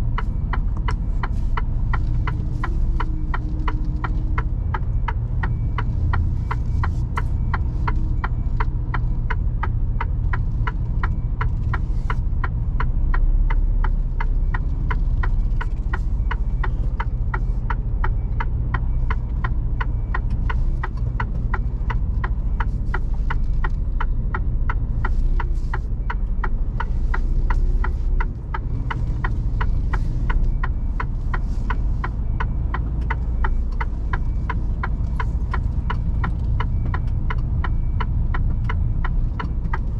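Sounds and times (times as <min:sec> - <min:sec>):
diesel engine hum: 0:00.0 - 0:39.9
indicator ticking: 0:00.0 - 0:39.9.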